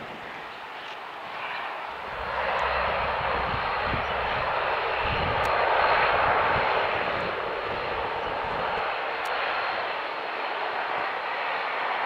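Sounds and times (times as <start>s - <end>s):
propeller aircraft engine rushing: 0.0s - 12.0s.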